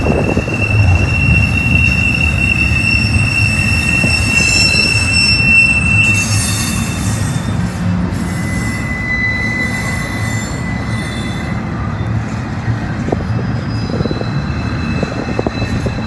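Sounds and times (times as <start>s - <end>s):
high wheel squeal: 0.0s - 12.4s, 13.6s - 16.0s
freight train rumbling: 0.0s - 16.0s
sharp train clanks: 0.0s - 16.0s.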